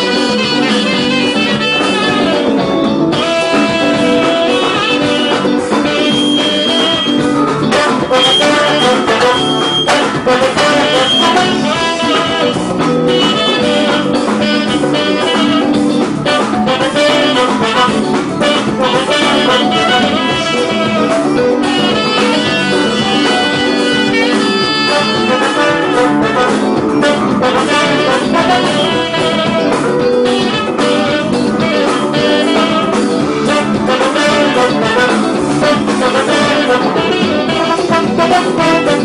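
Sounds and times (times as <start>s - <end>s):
backing music: 0.0s - 39.0s
saxophone melody: 0.0s - 39.0s.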